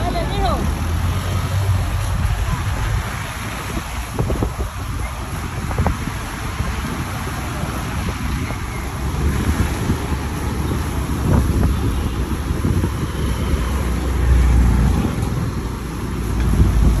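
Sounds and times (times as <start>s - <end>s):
motorcycle engine rumble: 0.0s - 17.0s
tyre noise on wet road: 0.0s - 17.0s
wind buffeting microphone: 0.0s - 17.0s.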